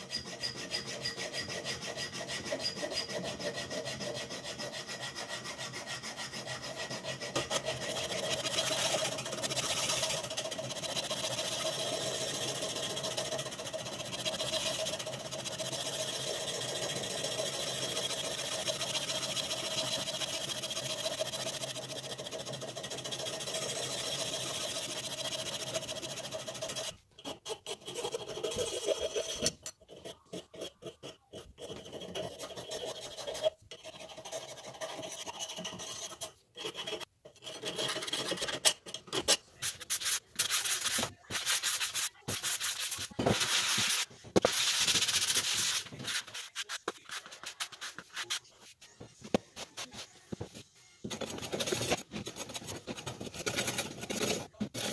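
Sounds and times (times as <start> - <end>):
file rasping on metal tube: 0.0 - 48.4, 51.1 - 54.9.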